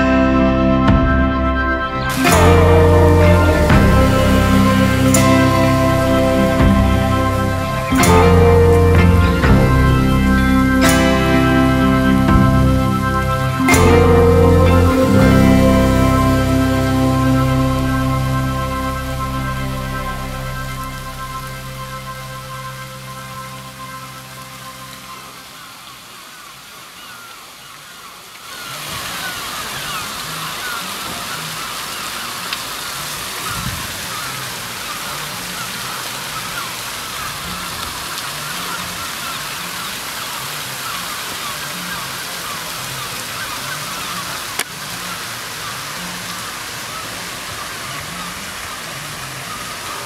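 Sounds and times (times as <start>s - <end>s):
fountain water splashing: 0.0s - 50.0s.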